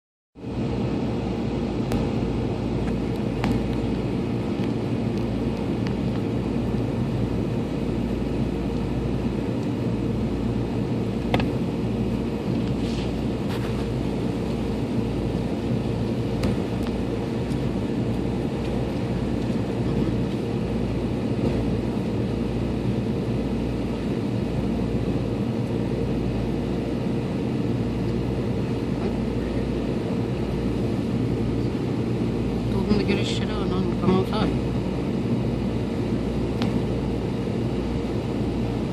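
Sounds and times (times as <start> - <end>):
steady hum: 0.4 - 38.9.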